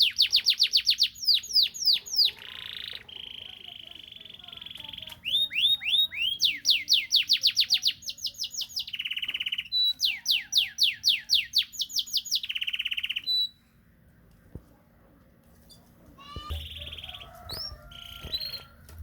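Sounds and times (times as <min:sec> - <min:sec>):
canary singing whistles and trills: 0:00.0 - 0:13.6, 0:16.3 - 0:18.8.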